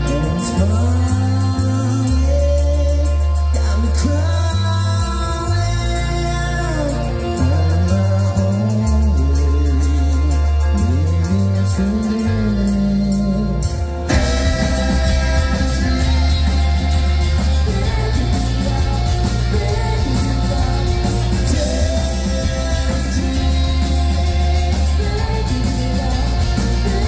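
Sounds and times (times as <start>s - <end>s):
person singing: 0.0s - 27.0s
rock band playing: 0.0s - 27.0s.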